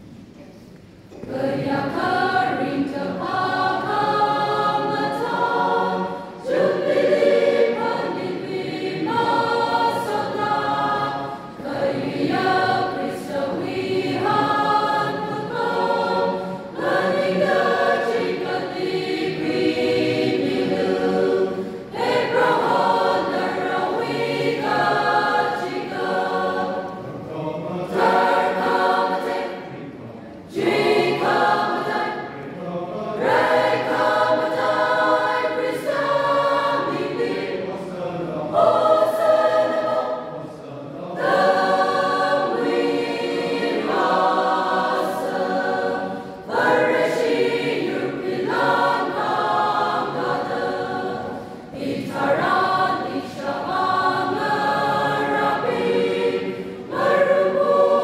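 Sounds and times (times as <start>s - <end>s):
mixed choir singing: 1.0s - 58.0s.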